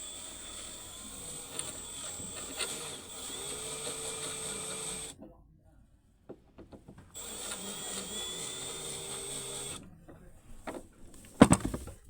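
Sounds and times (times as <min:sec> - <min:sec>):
small power tool whining: 0:00.0 - 0:05.2, 0:07.2 - 0:11.9.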